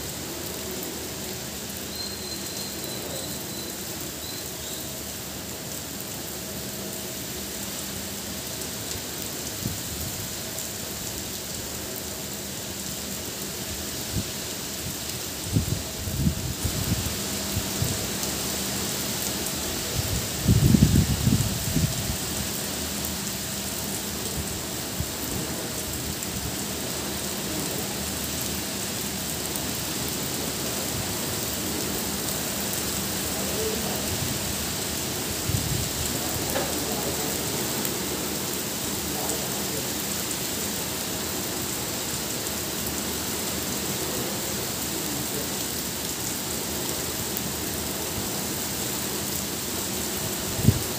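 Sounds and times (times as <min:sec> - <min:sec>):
heavy rain on foliage and paving: 0:00.0 - 0:50.9.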